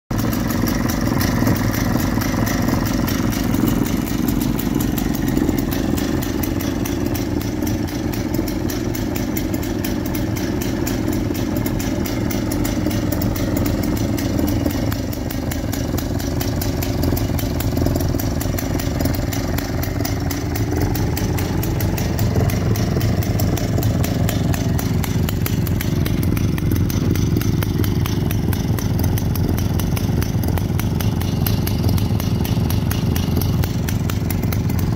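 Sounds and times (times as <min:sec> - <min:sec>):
chainsaw engine idling: 0:00.1 - 0:34.9.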